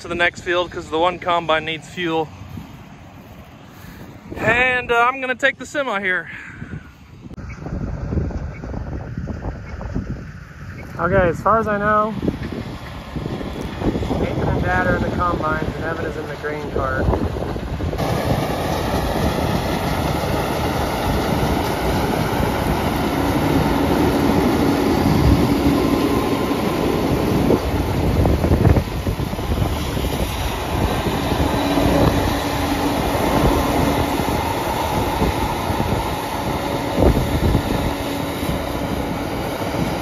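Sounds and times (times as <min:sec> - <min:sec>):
truck rumbling and rattling: 0:00.0 - 0:40.0.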